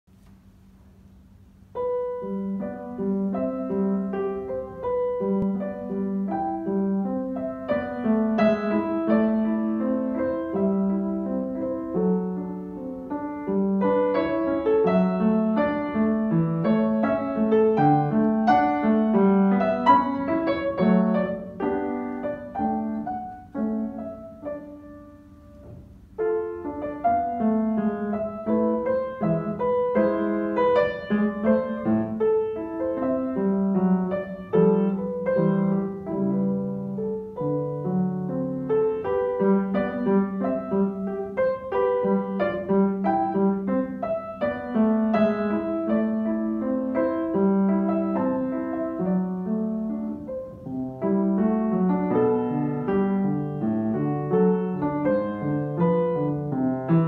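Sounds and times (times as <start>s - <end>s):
solo piano playing: 0.1s - 57.0s.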